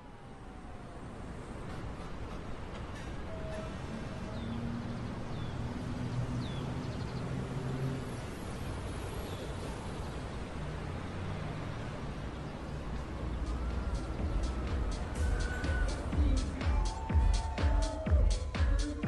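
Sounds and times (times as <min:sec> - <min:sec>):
traffic rumble: 0:00.0 - 0:19.0
vehicle low hum: 0:00.0 - 0:19.0.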